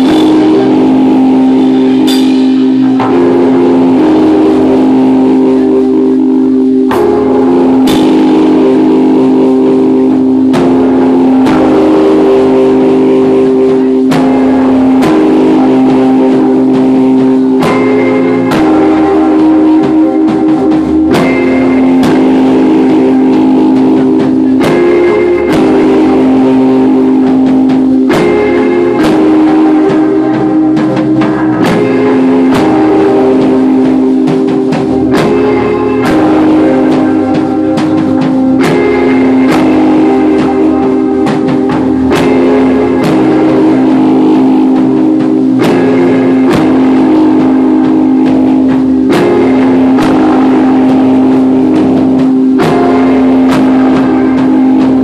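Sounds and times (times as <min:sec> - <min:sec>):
bass guitar: 0:00.0 - 0:55.0
drums hitting: 0:00.0 - 0:55.0
electric guitars: 0:00.0 - 0:55.0.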